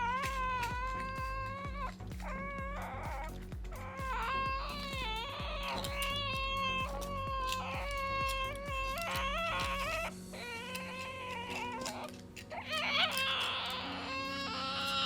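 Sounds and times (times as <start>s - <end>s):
background music: 0.0s - 15.0s
cockatoo whining calls: 0.0s - 15.0s.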